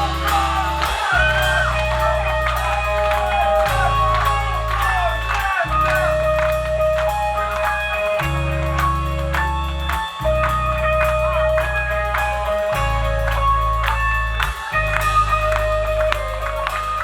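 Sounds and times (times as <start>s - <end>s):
picked guitar notes: 0.0s - 17.0s
sustained bass line: 0.0s - 17.0s.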